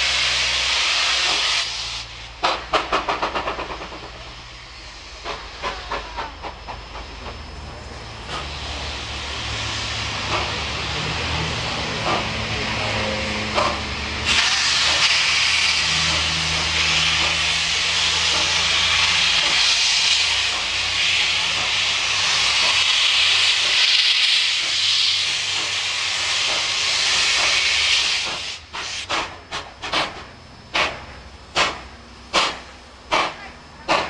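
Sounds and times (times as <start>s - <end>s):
steam locomotive exhaust beats: 0.0s - 34.0s
steam locomotive venting steam: 0.0s - 34.0s.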